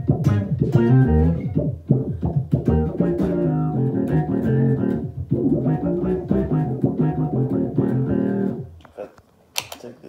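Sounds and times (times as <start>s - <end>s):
synth-like electric bass riff: 0.0s - 8.7s.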